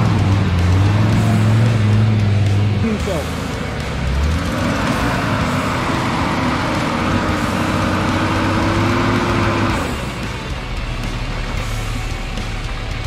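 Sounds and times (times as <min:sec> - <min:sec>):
car engine under load: 0:00.0 - 0:13.0.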